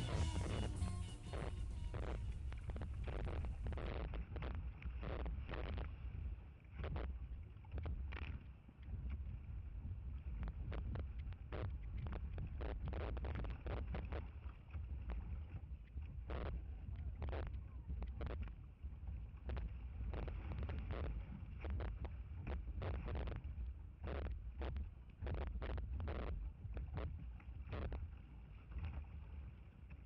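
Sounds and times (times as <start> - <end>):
rushing water rumble: 0.0 - 29.8
water splashing against hull: 0.0 - 30.0
wind on microphone: 0.0 - 30.0.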